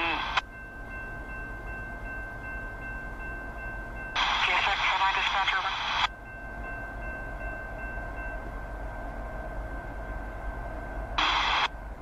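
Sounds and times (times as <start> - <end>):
distant freight train rumble: 0.0 - 12.0
steady high-pitched tones: 0.0 - 12.0.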